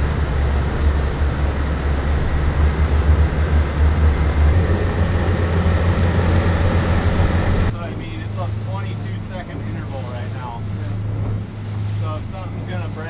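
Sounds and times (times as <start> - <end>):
motorboat engine drone: 0.0 - 13.0
wind and water rushing: 0.0 - 13.0.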